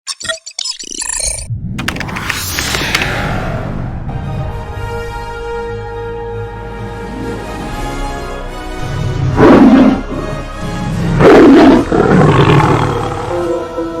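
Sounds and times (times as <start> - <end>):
background music: 2.7 - 14.0.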